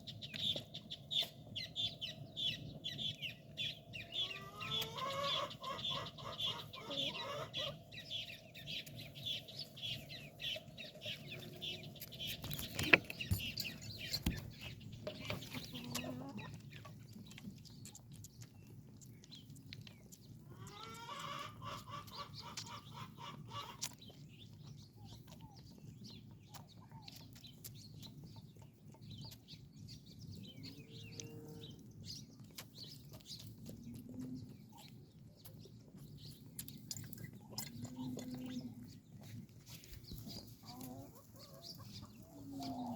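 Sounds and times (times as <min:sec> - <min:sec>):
farmyard birds calling: 0:00.0 - 0:42.9.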